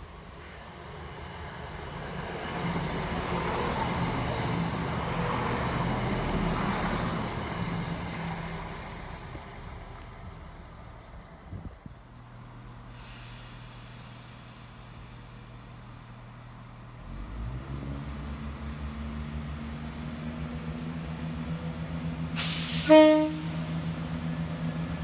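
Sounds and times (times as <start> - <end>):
diesel train running past: 0.0 - 25.0.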